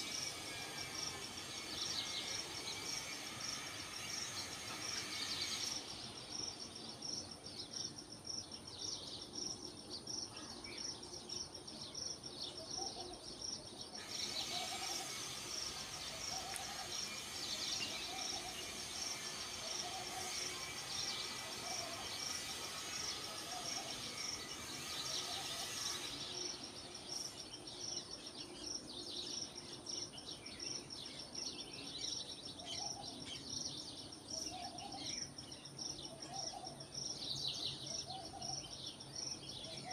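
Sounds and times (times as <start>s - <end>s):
pulsing high insect drone: 0.0s - 39.9s
birds chirping: 1.3s - 39.9s.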